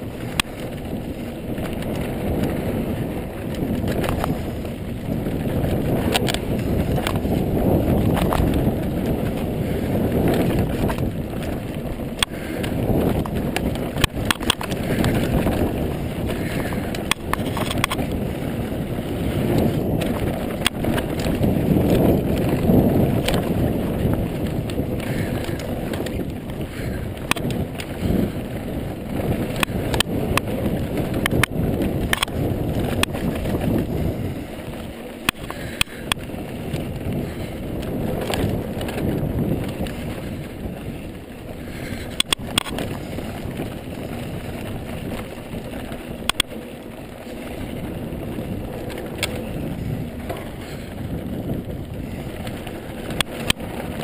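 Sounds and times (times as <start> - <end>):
bike clicks and knocks over bumps: 0.0 - 54.0
bike tyres rumbling on dirt: 0.0 - 54.0.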